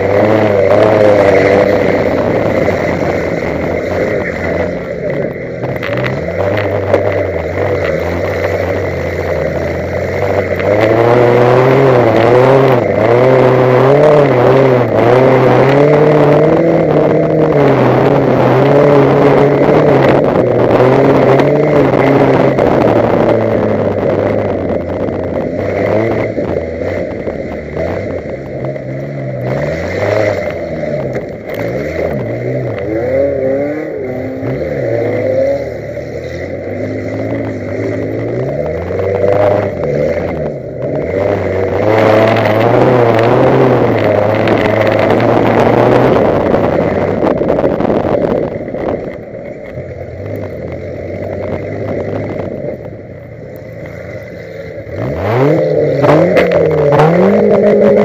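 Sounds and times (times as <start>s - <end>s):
racing car engine revving: 0.0s - 58.0s
road noise: 0.0s - 58.0s.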